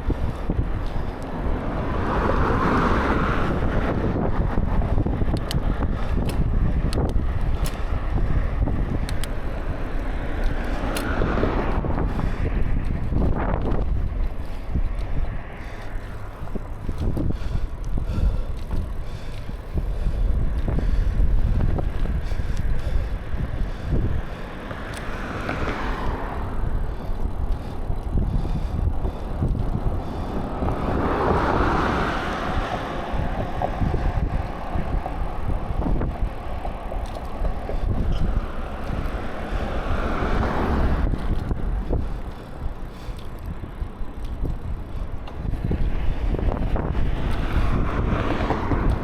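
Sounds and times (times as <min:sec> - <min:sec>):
rush of noise: 0:00.0 - 0:49.0
wind buffeting microphone: 0:00.0 - 0:49.0.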